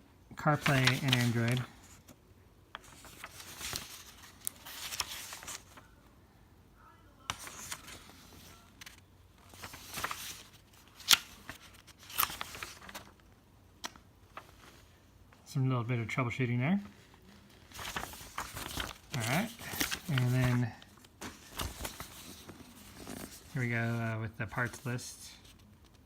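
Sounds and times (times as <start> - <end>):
pages turning: 0.4 - 5.8, 7.3 - 13.2, 13.8 - 14.9, 16.8 - 26.0.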